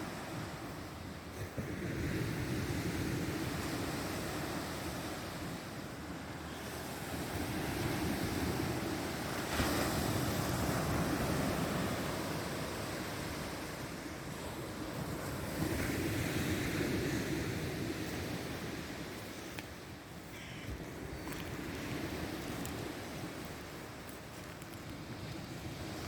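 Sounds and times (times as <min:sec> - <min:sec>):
sea waves washing onto shore: 0:00.0 - 0:26.0.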